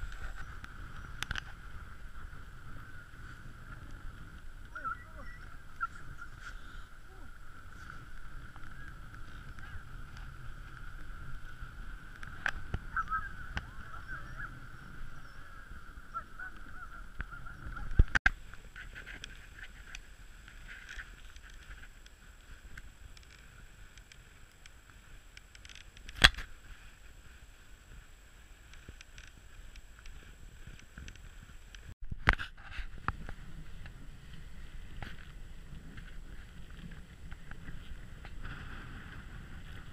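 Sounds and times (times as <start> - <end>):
sled runners scraping over snow: 0.0 - 39.9.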